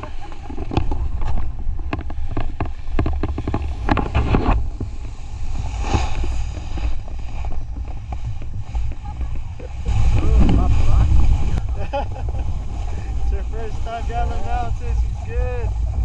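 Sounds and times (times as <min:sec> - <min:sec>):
rapid clicks and scrapes: 0:00.0 - 0:16.0
wind buffeting microphone: 0:00.0 - 0:16.0.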